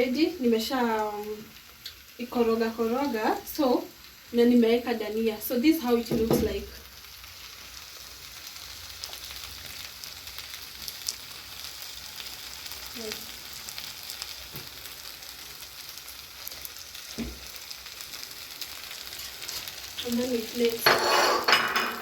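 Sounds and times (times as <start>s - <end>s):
rice sizzling in a pot: 0.0s - 22.0s.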